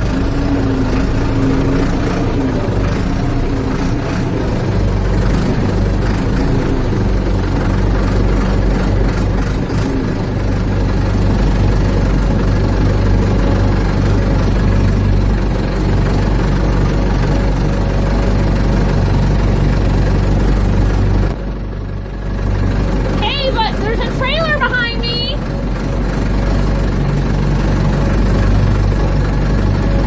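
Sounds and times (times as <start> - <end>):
backhoe engine running: 0.0 - 30.0.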